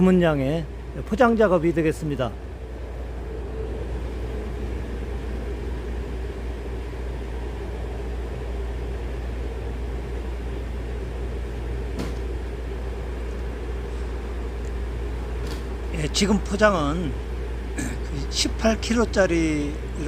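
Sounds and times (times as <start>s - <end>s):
steady low machine hum: 0.0s - 20.0s.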